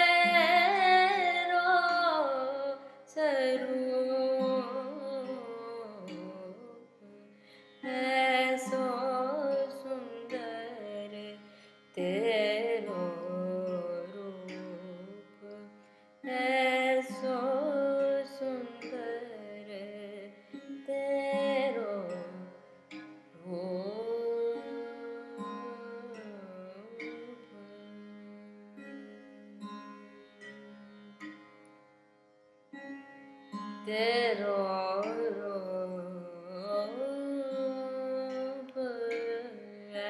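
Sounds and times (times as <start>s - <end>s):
plucked sitar-like strings: 0.0s - 40.0s.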